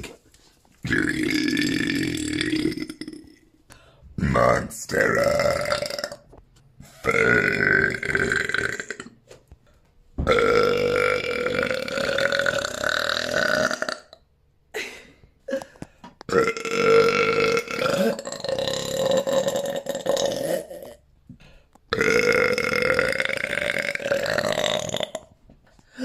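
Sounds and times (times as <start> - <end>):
person burping: 0.8 - 3.5, 4.2 - 6.3, 6.9 - 9.2, 10.2 - 21.1, 21.9 - 26.0.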